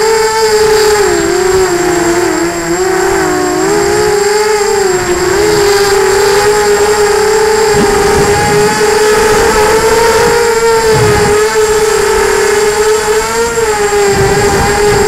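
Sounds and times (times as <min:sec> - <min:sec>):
drone motors whining: 0:00.0 - 0:15.0
wind rumbling on microphone: 0:00.0 - 0:15.0.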